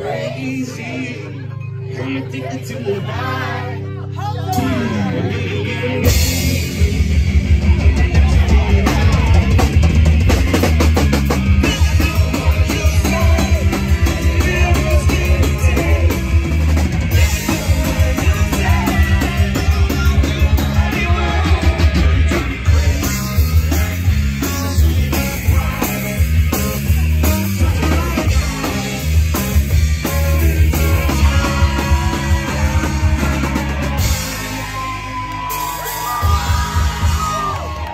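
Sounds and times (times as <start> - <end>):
electric guitar: 0.0 - 37.9
rock band playing: 0.0 - 37.9
drum kit driving beat: 4.5 - 37.9.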